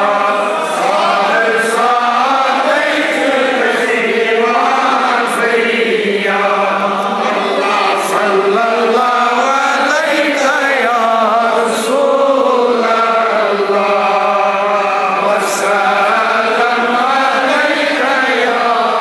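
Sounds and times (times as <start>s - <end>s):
men chanting together: 0.0s - 19.0s.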